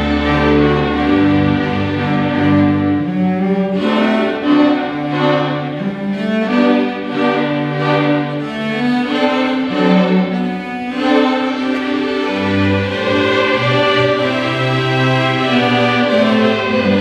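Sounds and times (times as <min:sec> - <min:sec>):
string orchestra playing: 0:00.0 - 0:17.0.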